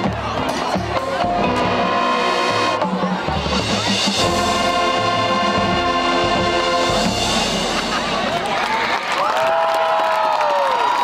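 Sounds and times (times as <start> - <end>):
marching band playing: 0.0 - 9.2.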